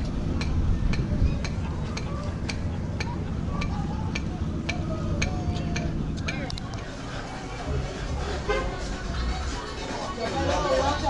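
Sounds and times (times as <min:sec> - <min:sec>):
steady low rumble: 0:00.0 - 0:09.8
faint distant voices: 0:00.0 - 0:11.0.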